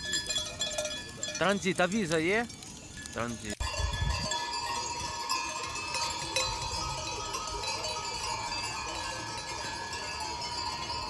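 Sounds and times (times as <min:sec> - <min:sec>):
livestock bells jingling: 0:00.0 - 0:11.0.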